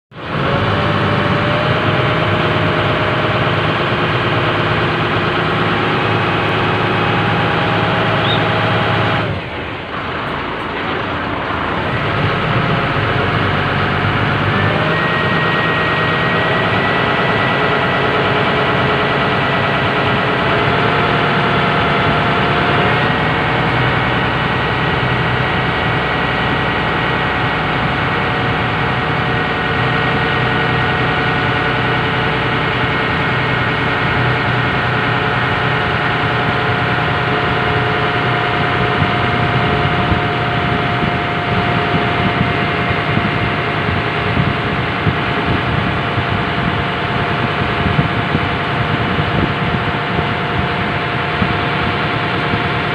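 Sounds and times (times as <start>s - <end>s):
boat engine running: 0.1s - 52.9s.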